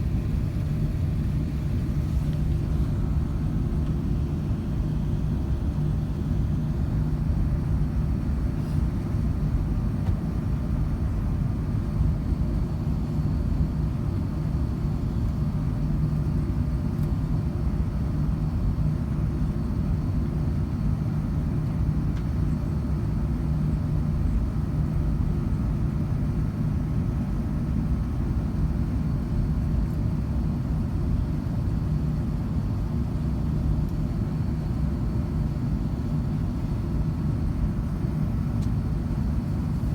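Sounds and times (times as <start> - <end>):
airliner cabin engine rumble: 0.0 - 39.9
low held hum: 0.0 - 39.9.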